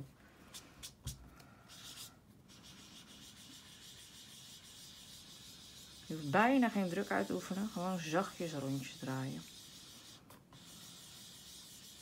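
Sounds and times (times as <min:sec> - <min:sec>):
foam dauber rubbing on card: 0:01.7 - 0:12.0.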